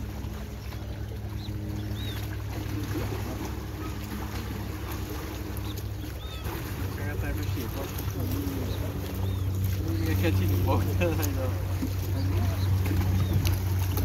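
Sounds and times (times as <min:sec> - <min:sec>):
distant motor droning hum: 0:00.0 - 0:14.0
water noise: 0:00.0 - 0:14.0
wind: 0:00.0 - 0:14.0.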